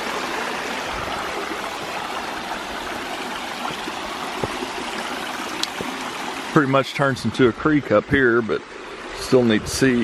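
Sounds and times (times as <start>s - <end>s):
waterfall and creek rushing: 0.0s - 10.0s.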